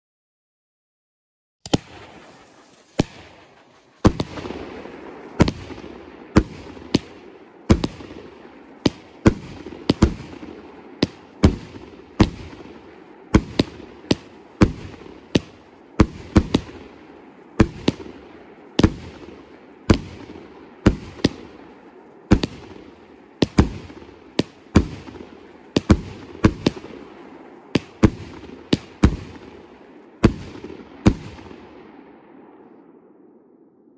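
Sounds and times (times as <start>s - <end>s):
firework bangs: 1.6s - 32.7s
rumbling echo: 1.8s - 33.7s.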